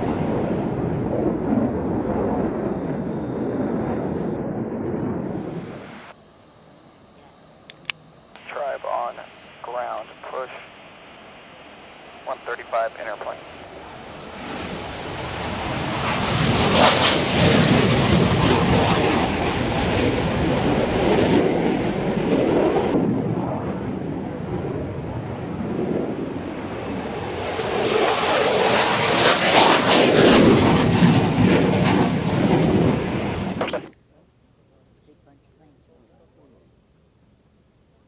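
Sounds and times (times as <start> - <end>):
aircraft engine passing low: 0.0 - 34.0.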